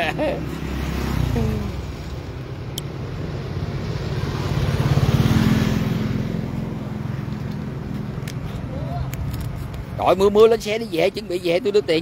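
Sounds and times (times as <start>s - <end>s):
vehicle passing on road: 0.0s - 12.0s.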